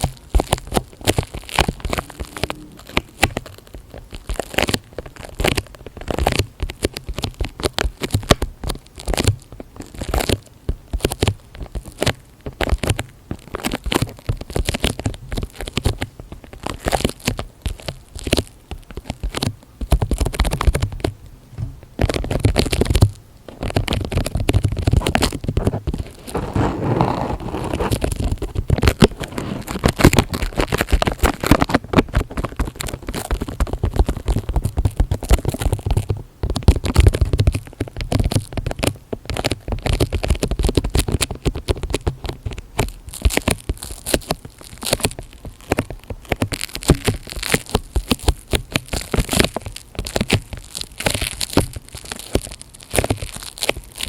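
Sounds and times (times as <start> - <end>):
crackling and clicking: 0.0 - 54.0
crinkly rustling: 0.0 - 54.0.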